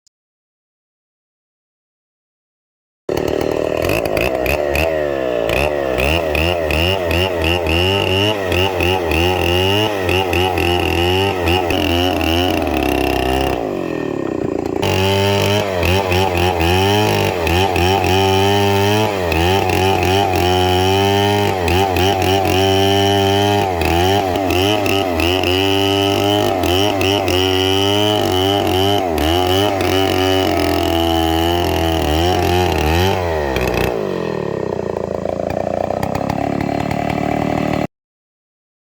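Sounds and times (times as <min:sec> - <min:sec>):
chainsaw cutting wood: 0:03.1 - 0:37.9.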